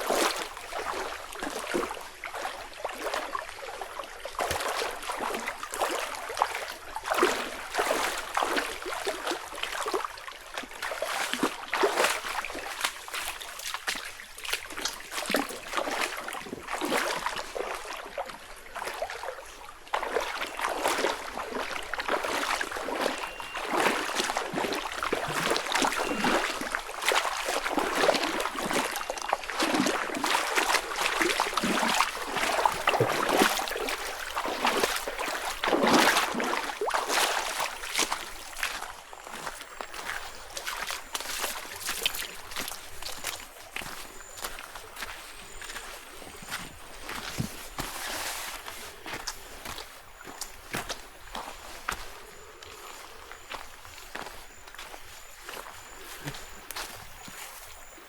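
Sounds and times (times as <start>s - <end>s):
running water splashing: 0.0s - 57.7s.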